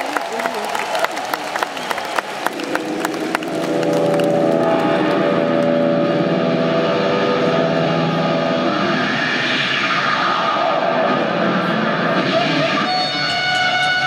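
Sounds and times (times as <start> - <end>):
crowd noise: 0.0 - 14.0
electric guitar feedback tones: 1.9 - 14.0.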